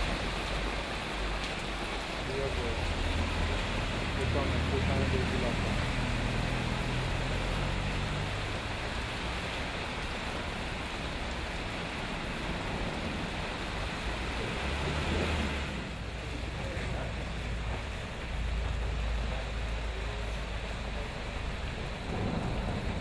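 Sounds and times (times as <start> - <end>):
cars splashing through water: 0.0 - 23.0
heavy rain pouring: 0.0 - 23.0
low engine rumble: 0.0 - 23.0.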